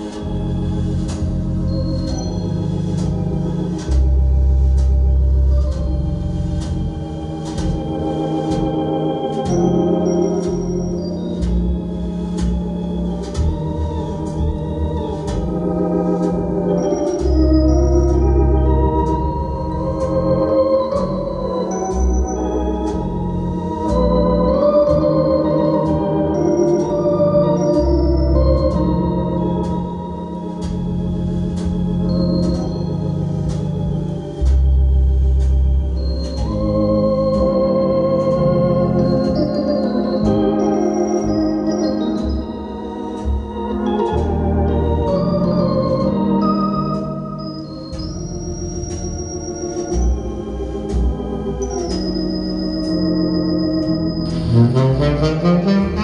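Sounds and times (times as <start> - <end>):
instrumental music over loudspeakers: 0.0 - 56.0.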